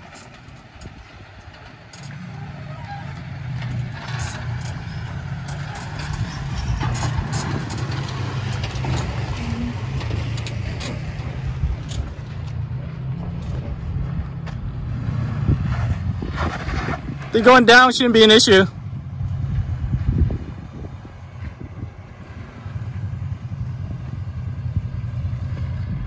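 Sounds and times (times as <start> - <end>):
truck engine hum: 0.0 - 26.0.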